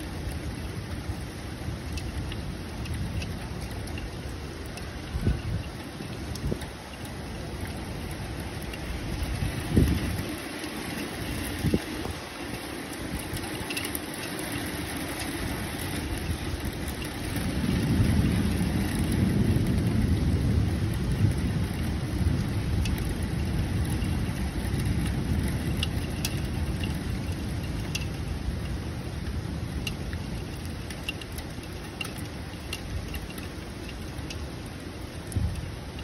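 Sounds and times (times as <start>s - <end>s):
heavy rain: 0.0s - 36.0s
low rumble of thunder: 0.0s - 36.0s
sharp ticks of raindrops: 0.0s - 36.0s.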